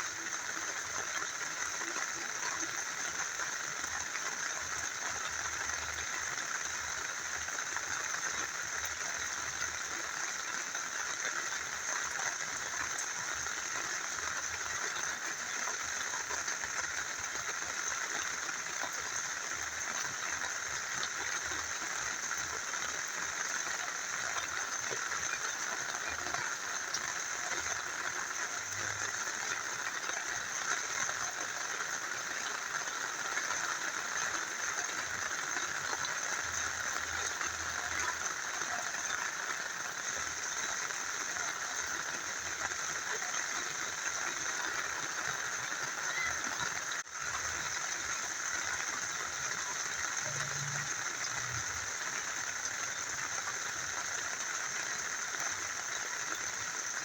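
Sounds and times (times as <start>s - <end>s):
rain falling: 0.0s - 57.0s
river flowing: 0.0s - 57.0s.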